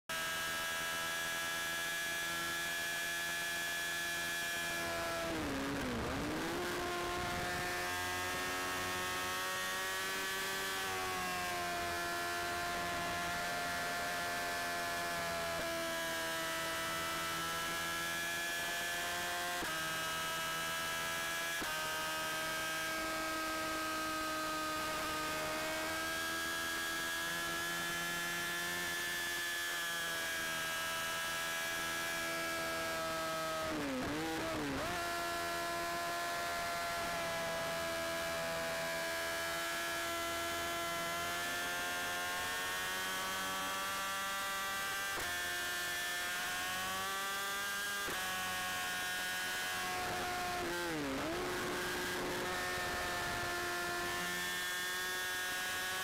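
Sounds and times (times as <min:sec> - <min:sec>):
motorcycle engine whine: 0:00.1 - 0:56.0.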